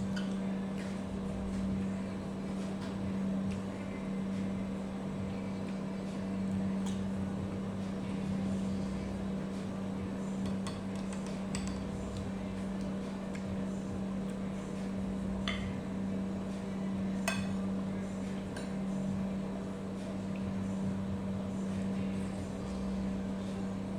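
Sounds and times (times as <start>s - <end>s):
low machine hum: 0.0s - 23.9s.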